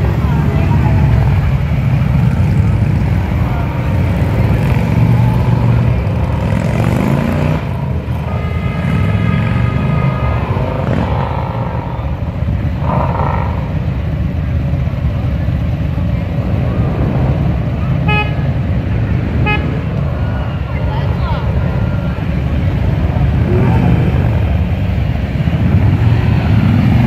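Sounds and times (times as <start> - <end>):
motorcycle engines rumbling: 0.0 - 27.0.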